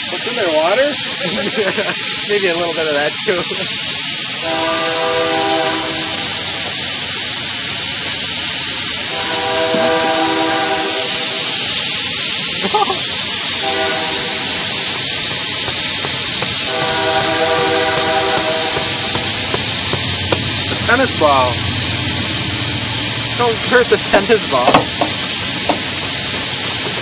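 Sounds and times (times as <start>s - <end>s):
exhaust hiss with high whistle: 0.0s - 27.0s
pitched buzz of leaking gas: 0.0s - 27.0s.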